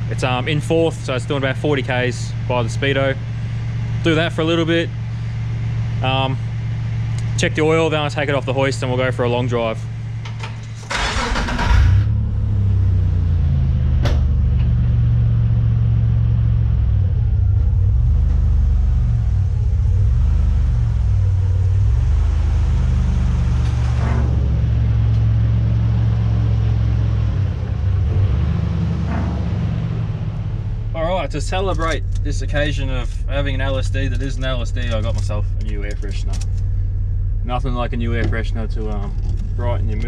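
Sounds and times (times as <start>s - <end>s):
engine running low rumble: 0.0s - 40.0s.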